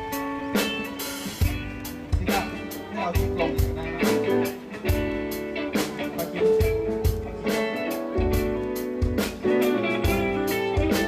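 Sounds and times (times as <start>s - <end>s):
guitar chords: 0.0s - 11.0s
steady drum beat: 0.0s - 11.0s.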